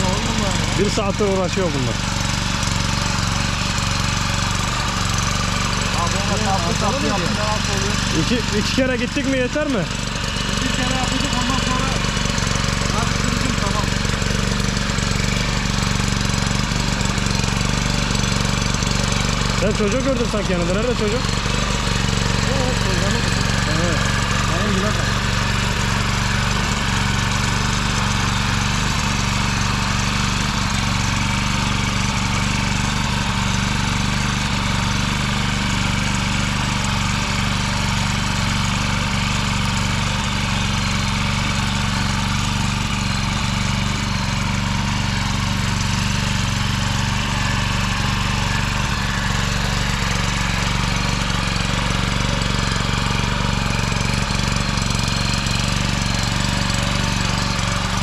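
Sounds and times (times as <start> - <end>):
rotary tiller engine running: 0.0 - 58.0.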